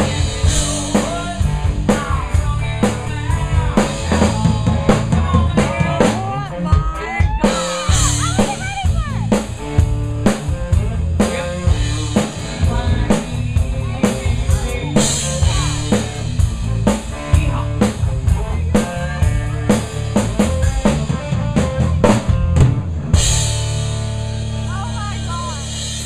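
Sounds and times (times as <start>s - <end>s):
drum kit beat: 0.0s - 26.0s
live band music: 0.0s - 26.0s.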